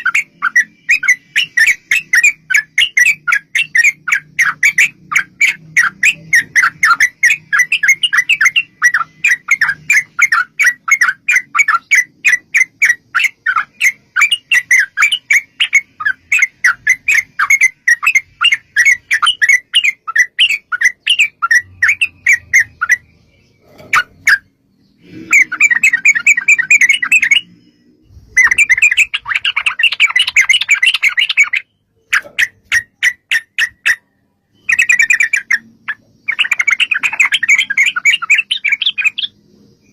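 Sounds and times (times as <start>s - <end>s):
bird chattering call: 0.0s - 27.6s, 28.3s - 39.9s.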